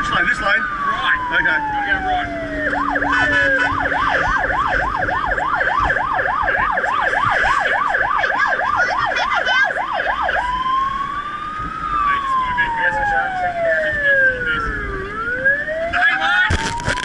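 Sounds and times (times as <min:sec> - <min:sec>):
fire truck siren yelp: 0:00.0 - 0:17.0
siren wail: 0:00.0 - 0:17.0.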